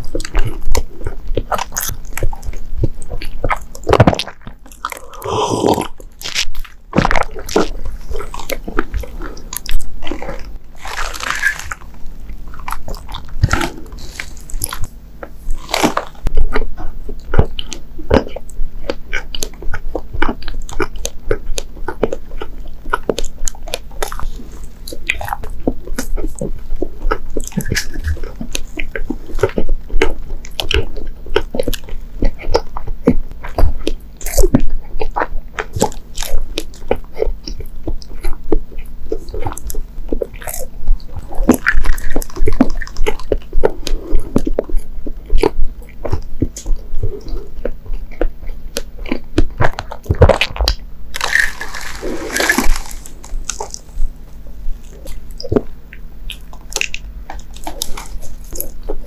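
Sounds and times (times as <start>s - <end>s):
biting into soft food: 0.0s - 59.0s
mouth chewing wet smacks: 0.0s - 59.0s.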